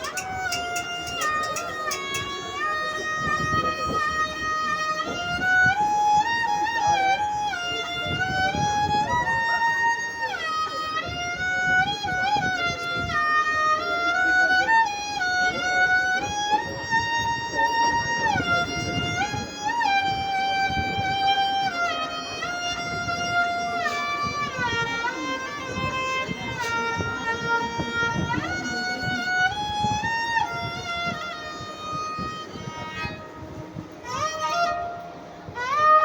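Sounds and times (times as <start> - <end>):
bowed string instrument melody: 0.0 - 36.0.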